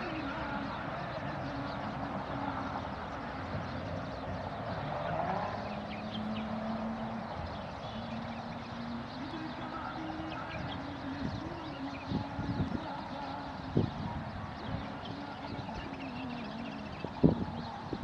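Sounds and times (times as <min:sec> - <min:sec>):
faint bird chirps: 0:00.0 - 0:18.0
wind: 0:00.0 - 0:18.0.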